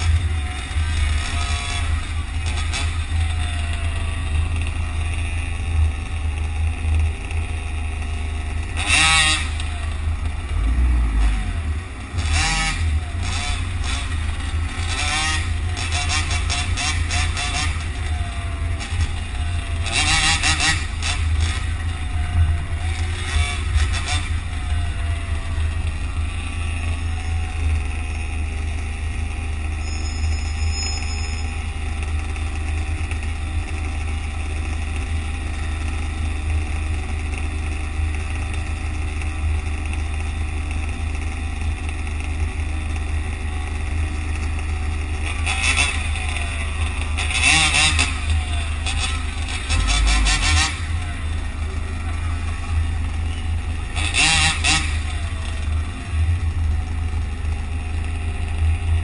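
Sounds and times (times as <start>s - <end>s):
road traffic rumble: 0.0s - 59.0s
rushes of vehicle noise: 0.0s - 59.0s.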